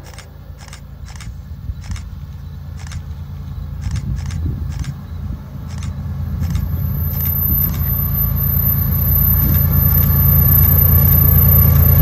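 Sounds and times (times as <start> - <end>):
freight train engine rumble: 0.0 - 12.0.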